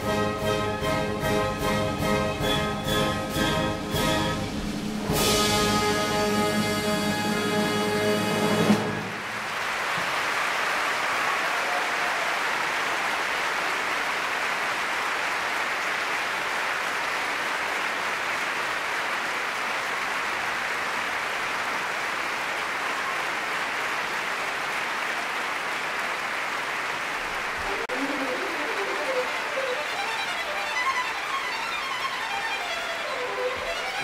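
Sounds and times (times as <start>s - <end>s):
audience applauding: 5.1s - 34.0s.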